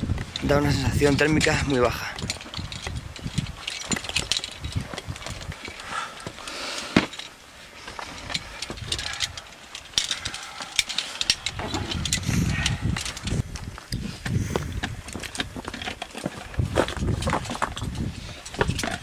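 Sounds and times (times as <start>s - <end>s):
wind buffeting microphone: 0.0s - 6.4s, 7.8s - 19.0s
carabiners clinking on harness: 0.2s - 14.0s, 14.7s - 19.0s.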